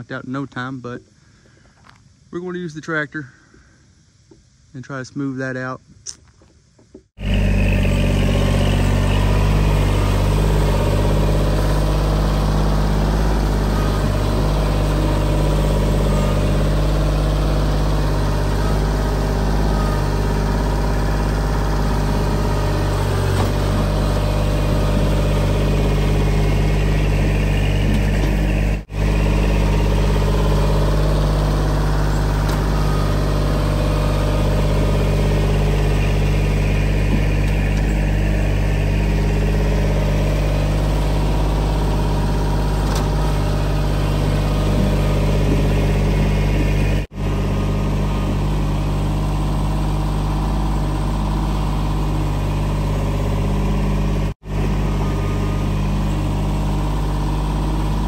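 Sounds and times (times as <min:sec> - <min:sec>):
tractor diesel engine running: 0:06.9 - 0:58.0.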